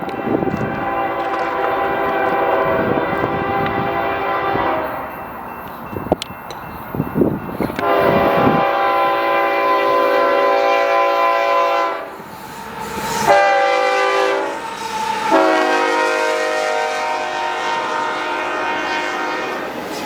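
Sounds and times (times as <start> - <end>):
locomotive air horn blasts: 0.1 - 5.1, 7.8 - 12.2, 12.8 - 20.0.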